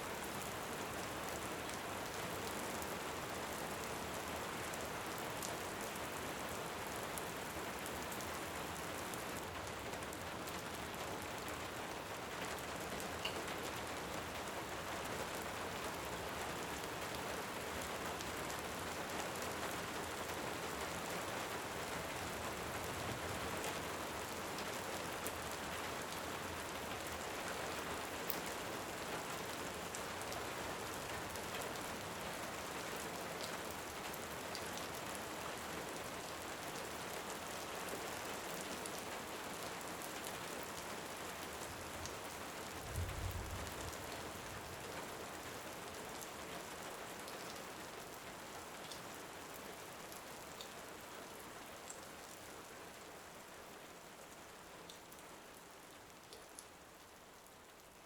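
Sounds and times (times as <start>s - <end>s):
heavy rain: 0.1s - 58.0s.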